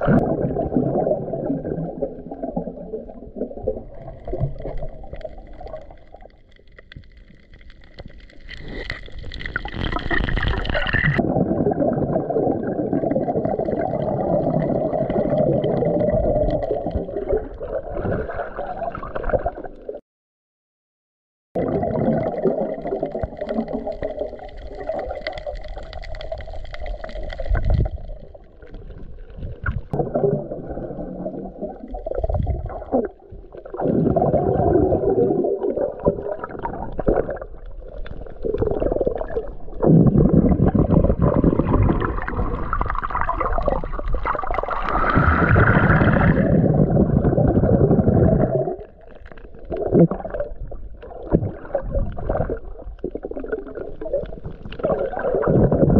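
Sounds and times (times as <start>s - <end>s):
underwater gurgling and bubbling: 0.0s - 20.0s, 21.6s - 55.9s.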